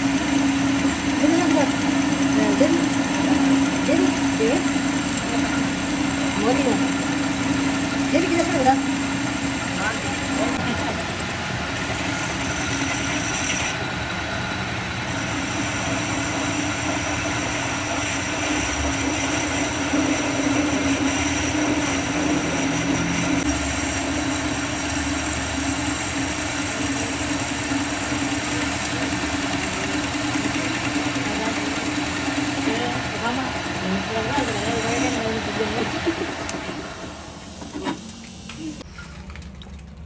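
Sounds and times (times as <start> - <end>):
machine humming with hiss: 0.0 - 38.8.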